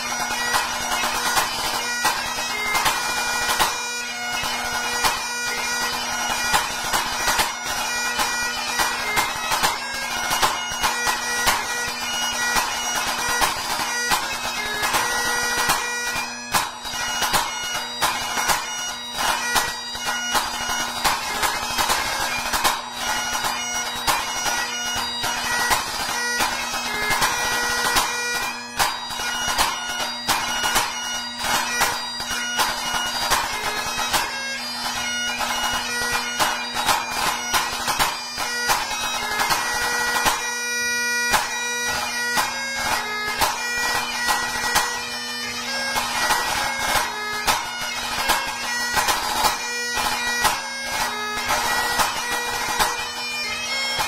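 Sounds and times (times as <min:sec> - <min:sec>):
bagpipe chanter melody: 0:00.0 - 0:54.0
bagpipe drones: 0:00.0 - 0:54.0.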